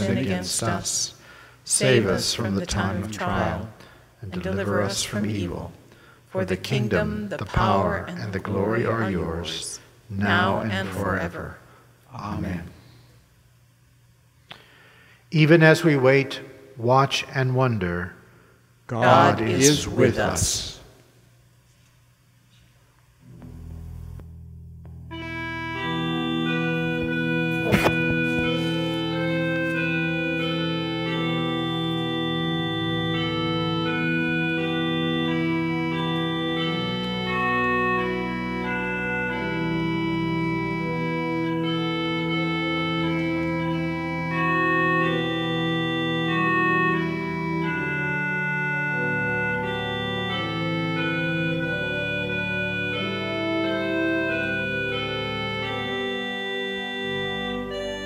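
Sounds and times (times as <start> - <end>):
organ playing sustained chords: 0.0 - 13.1, 14.6 - 20.9, 23.2 - 58.0.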